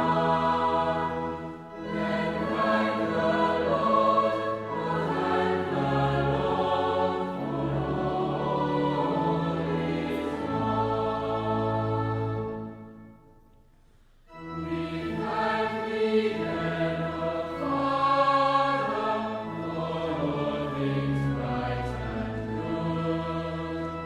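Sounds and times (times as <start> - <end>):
choir singing sustained chords: 0.0 - 13.6, 14.3 - 24.0.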